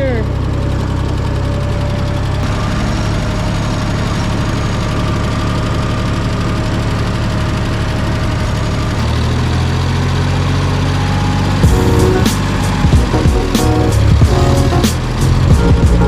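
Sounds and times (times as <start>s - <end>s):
machine engine running: 0.0s - 16.0s.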